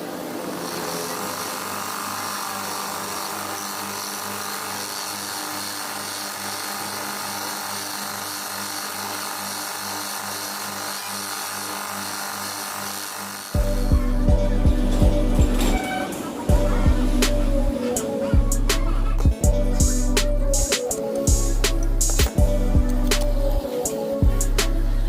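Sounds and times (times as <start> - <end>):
electric power tool running: 0.0 - 25.0.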